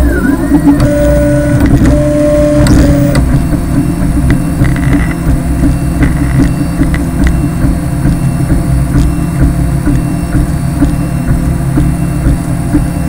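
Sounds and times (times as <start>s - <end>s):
motors whining: 0.0s - 13.0s
printer mechanical hum: 0.0s - 13.0s.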